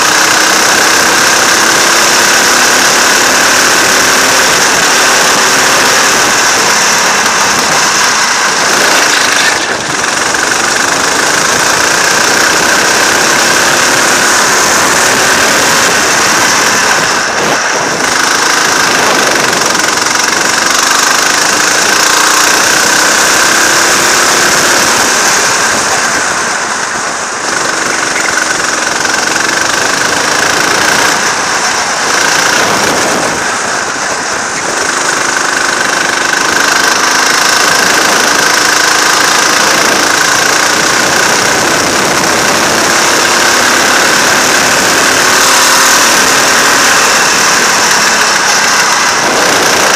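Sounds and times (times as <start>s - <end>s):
go-kart engine revving: 0.0s - 49.9s.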